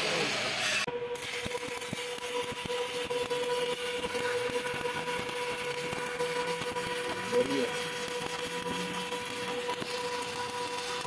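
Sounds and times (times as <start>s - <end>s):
welding arc crackling: 0.0s - 11.0s
steady hum: 0.1s - 11.0s.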